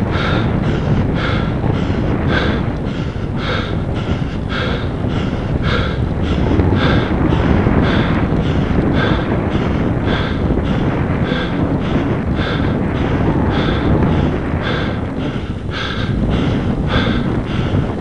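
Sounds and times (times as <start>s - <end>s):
low rumble: 0.0s - 18.0s
person panting: 0.0s - 18.0s.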